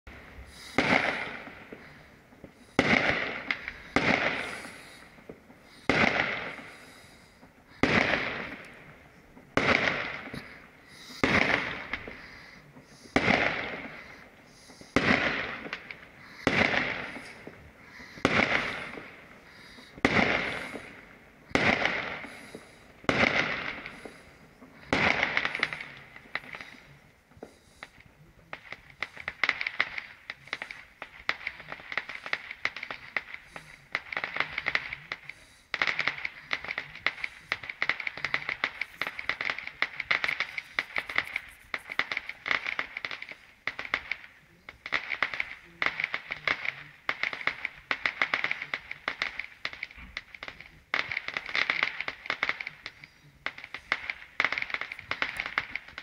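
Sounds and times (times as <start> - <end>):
crackling pops of fireworks: 0.1 - 56.0
fireworks bangs: 0.1 - 56.0.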